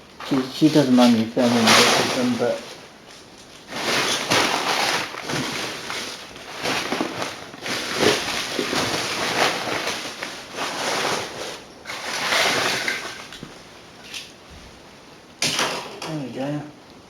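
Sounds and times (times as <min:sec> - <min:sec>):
items rustling and crackling: 0:00.0 - 0:16.6.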